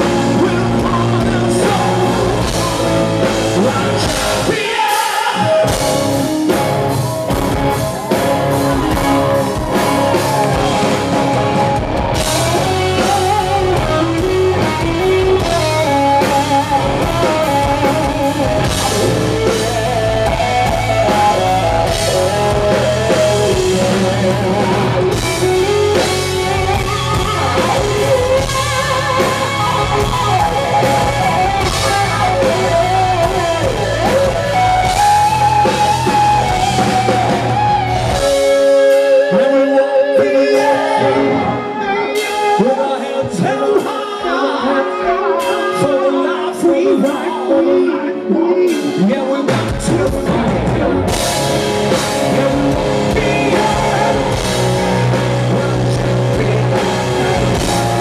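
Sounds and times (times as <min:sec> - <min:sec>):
man singing: 0:00.0 - 0:06.6, 0:08.8 - 0:37.2, 0:38.1 - 0:58.0
live hard rock band: 0:00.0 - 0:58.0.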